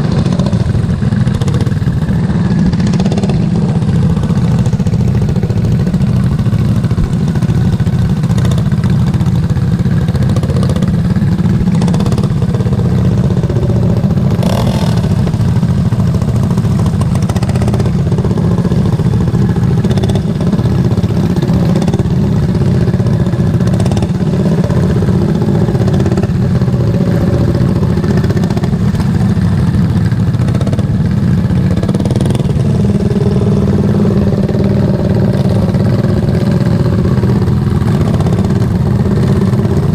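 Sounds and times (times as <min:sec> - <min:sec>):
lawn mower engine running hard: 0:00.0 - 0:39.9.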